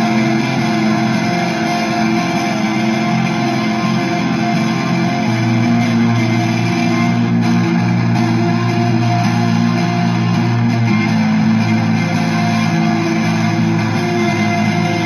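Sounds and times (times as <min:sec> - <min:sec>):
distorted reverberant guitar chords: 0:00.0 - 0:15.0.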